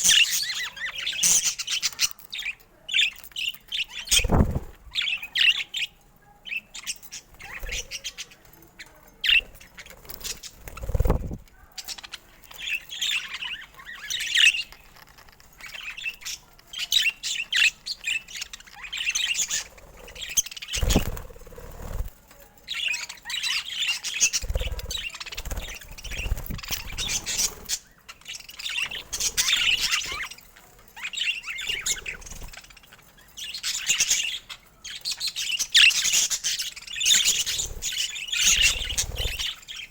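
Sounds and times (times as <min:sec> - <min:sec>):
budgerigars chirping and chattering: 0:00.0 - 0:22.1, 0:22.7 - 0:39.9.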